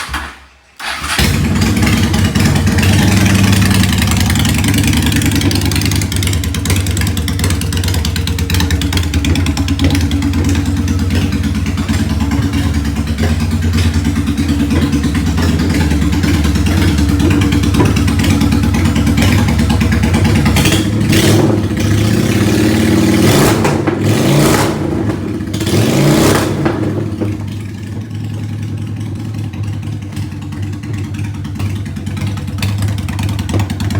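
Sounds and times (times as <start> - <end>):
motorcycle engine starting and revving: 0.0 - 33.9.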